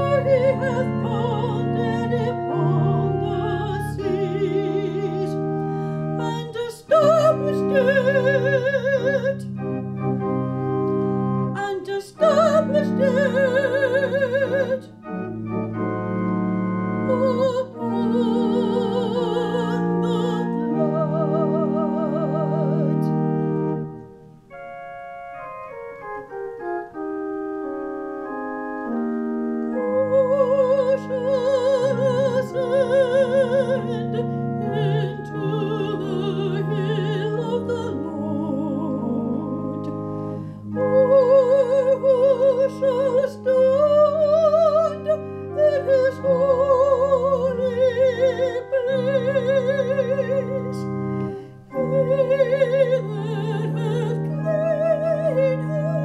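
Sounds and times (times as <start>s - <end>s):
woman singing with vibrato: 0.0s - 9.7s, 11.5s - 15.0s, 17.0s - 23.3s, 29.7s - 40.0s, 40.7s - 56.0s
organ chords: 0.0s - 56.0s.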